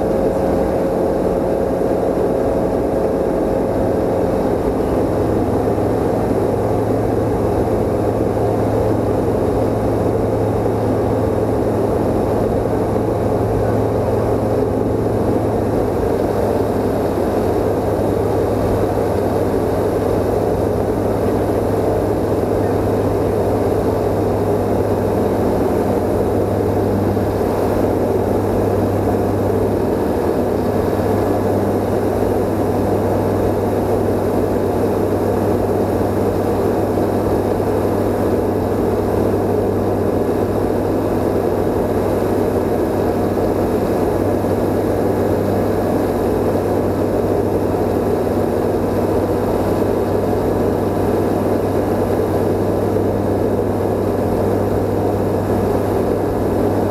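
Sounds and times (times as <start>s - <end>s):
light aircraft engine droning: 0.0s - 56.9s
rush of airflow: 0.0s - 56.9s.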